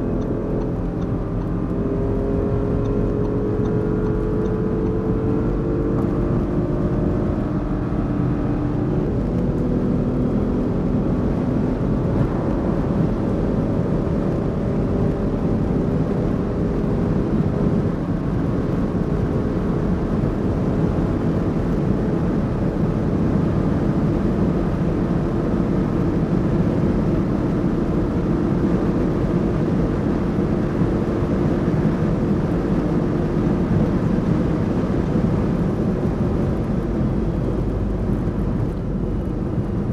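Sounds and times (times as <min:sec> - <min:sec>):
car engine accelerating: 0:00.0 - 0:39.9
wind noise: 0:00.0 - 0:39.9.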